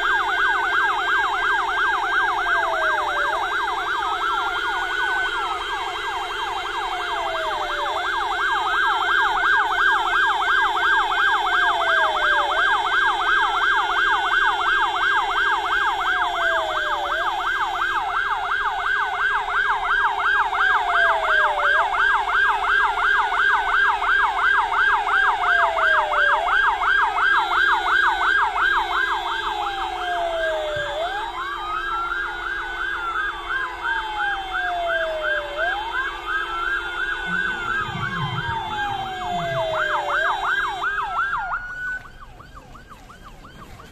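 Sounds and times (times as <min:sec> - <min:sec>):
siren wailing: 0:00.0 - 0:43.9
siren yelping: 0:00.0 - 0:43.9
steady low siren tone: 0:00.0 - 0:43.9.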